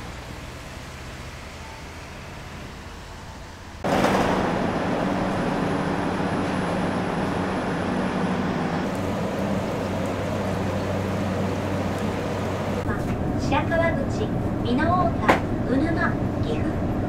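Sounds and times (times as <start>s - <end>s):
railcar engine humming: 0.0s - 17.0s.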